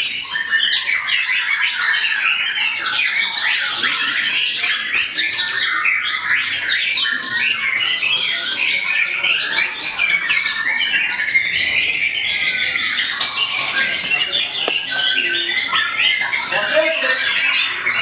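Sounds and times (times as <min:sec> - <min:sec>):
lovebirds trilling and squawking: 0:00.0 - 0:18.0.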